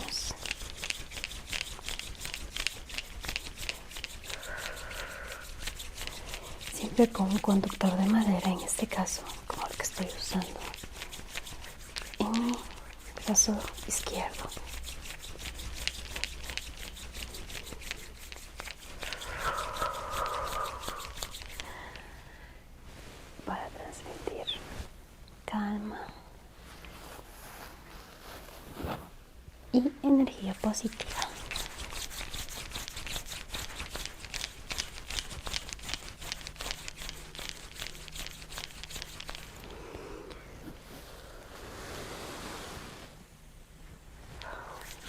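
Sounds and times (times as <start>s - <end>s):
hands rubbing on body: 0.0s - 22.0s, 22.8s - 24.9s, 26.6s - 29.2s, 30.1s - 43.2s, 43.9s - 45.0s.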